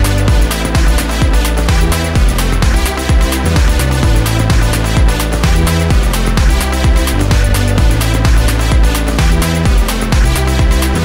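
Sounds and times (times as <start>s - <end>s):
electronic dance music: 0.0s - 11.0s
steady kick drum: 0.0s - 11.0s.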